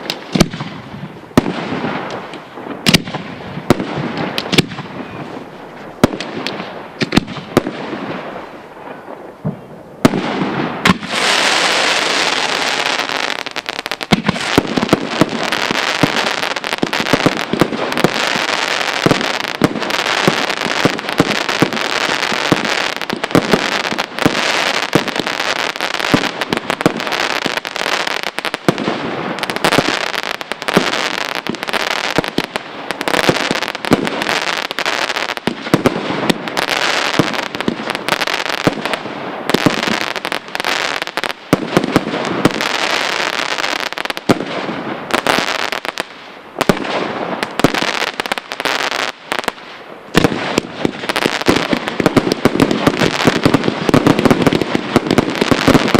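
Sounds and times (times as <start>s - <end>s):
firework bangs: 0.0s - 55.9s
fireworks barrage and crackling: 0.0s - 55.9s.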